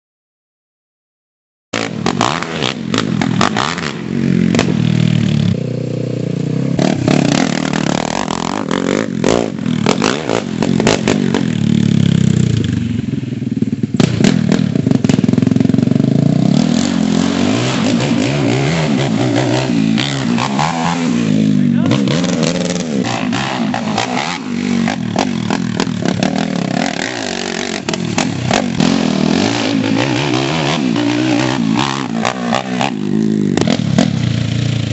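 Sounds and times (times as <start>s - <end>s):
quad bike engine revving: 1.8s - 34.9s.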